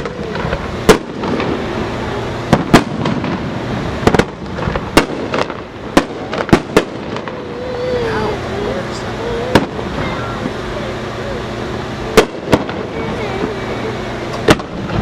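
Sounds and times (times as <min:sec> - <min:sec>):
fireworks bangs: 0:00.0 - 0:15.0
steady background noise: 0:00.0 - 0:15.0.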